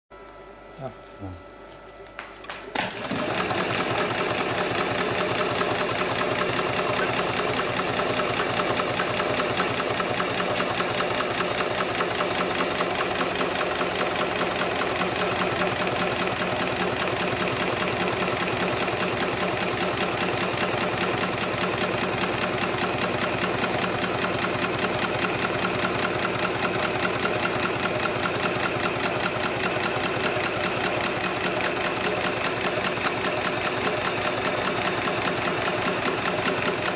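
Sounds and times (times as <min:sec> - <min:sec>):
sewing machine stitching: 0:02.8 - 0:36.9.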